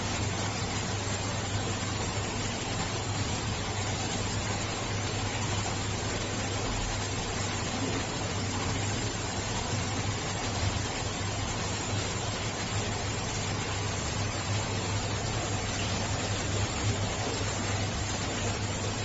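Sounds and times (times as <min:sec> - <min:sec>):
aquarium pump water hiss: 0:00.0 - 0:19.0.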